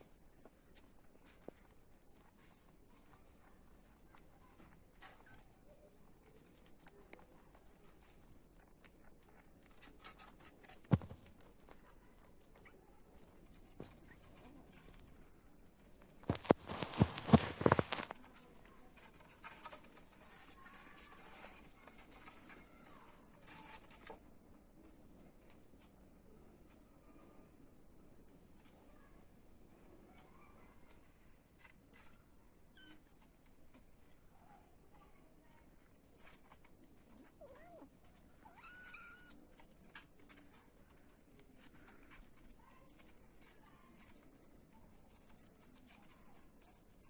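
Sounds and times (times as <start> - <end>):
faint rustling and scratching: 0.0 - 47.0.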